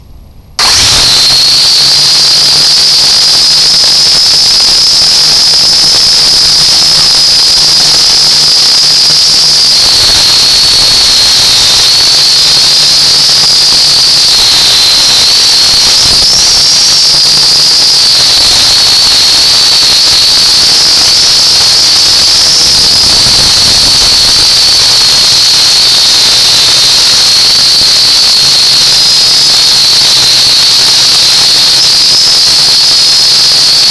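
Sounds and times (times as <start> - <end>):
quadcopter motors whining: 0.1 - 33.9.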